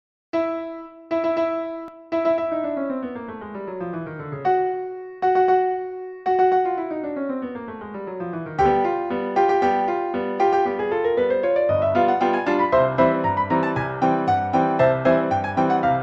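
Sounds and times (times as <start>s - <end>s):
electric piano chords: 0.4s - 16.0s.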